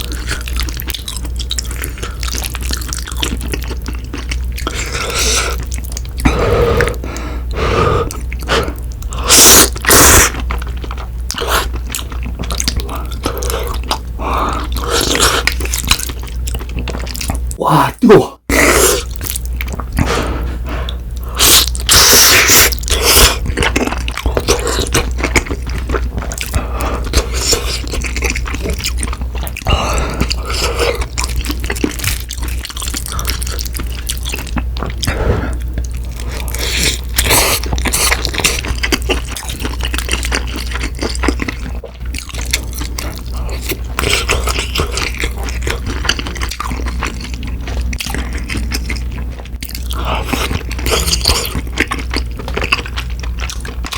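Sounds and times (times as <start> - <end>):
chewing and crunching food: 0.0 - 17.6, 18.5 - 53.9.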